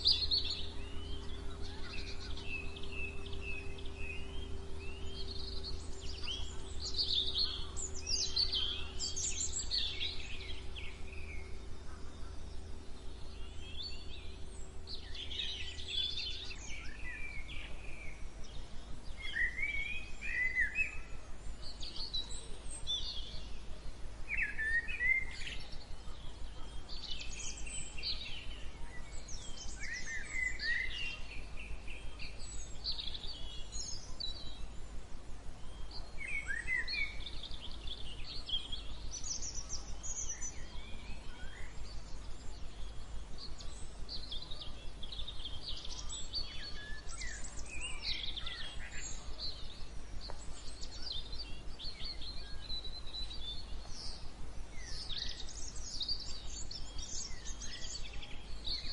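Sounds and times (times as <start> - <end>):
faint steady hum: 0.0 - 58.9
low background rumble: 0.0 - 58.9
songbirds singing and chirping: 0.0 - 58.9.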